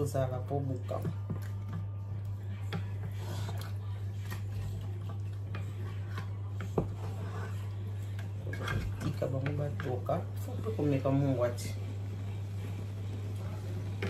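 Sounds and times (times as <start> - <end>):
steady low hum: 0.0 - 14.0
wooden spatula stirring in pot: 0.0 - 14.0.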